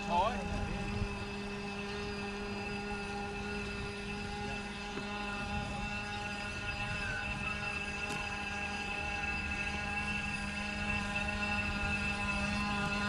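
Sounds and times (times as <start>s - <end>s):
model boat motor whining: 0.0s - 13.0s.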